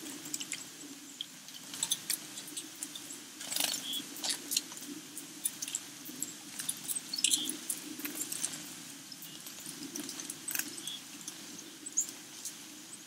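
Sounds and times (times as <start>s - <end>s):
small birds clicking and tapping: 0.0s - 13.0s
bird chirp: 0.3s - 4.2s, 5.6s - 13.0s.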